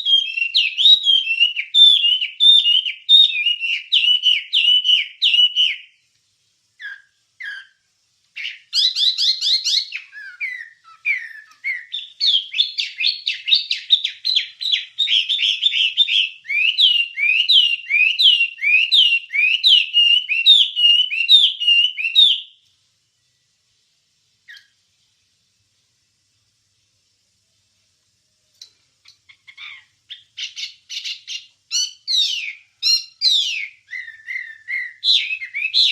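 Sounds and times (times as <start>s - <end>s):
songbird singing whistled notes: 0.0s - 6.0s, 6.8s - 22.7s, 24.4s - 24.8s, 29.0s - 35.9s.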